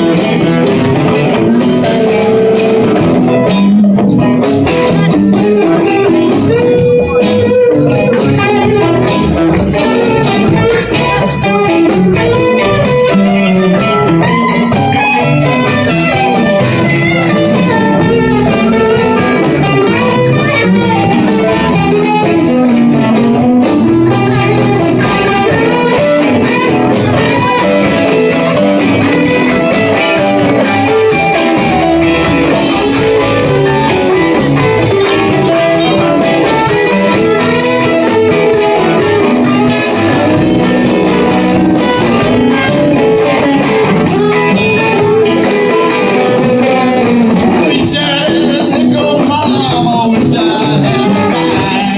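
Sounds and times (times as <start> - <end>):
drum kit: 0.0 - 51.9
electric bass: 0.0 - 51.9
electric guitars: 0.0 - 51.9.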